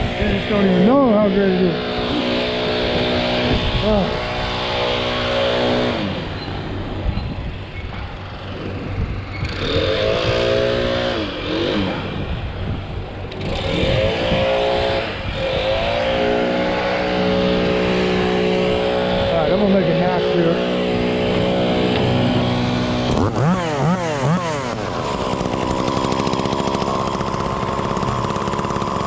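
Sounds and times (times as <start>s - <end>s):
chainsaw engine running: 0.0s - 29.0s.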